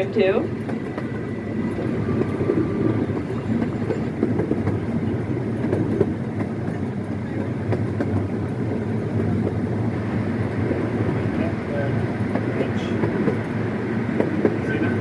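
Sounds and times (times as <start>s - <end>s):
small train rumbling on track: 0.0s - 15.0s.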